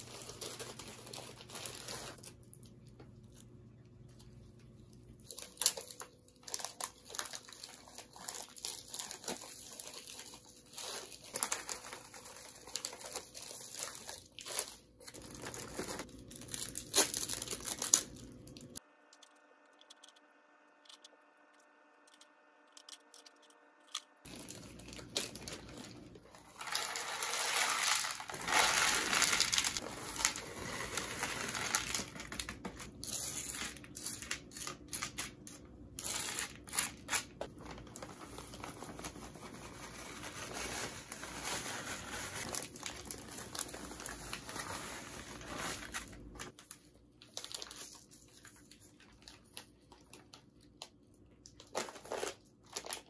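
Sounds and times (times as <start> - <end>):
plastic bags crinkling: 0.0 - 2.7, 5.1 - 18.8, 24.3 - 50.8, 51.4 - 53.0.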